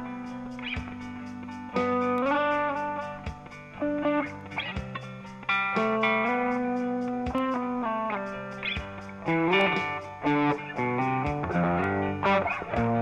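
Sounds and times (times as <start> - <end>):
electric guitar held notes and chords: 0.0 - 13.0.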